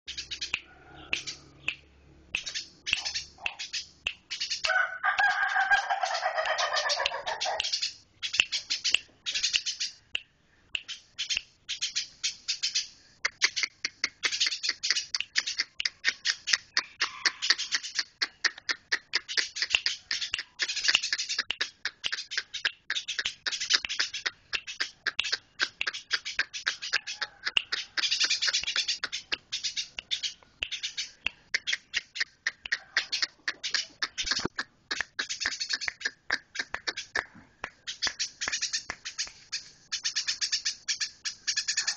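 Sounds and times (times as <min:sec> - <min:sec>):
sparrow chirping: 0:00.0 - 0:41.9.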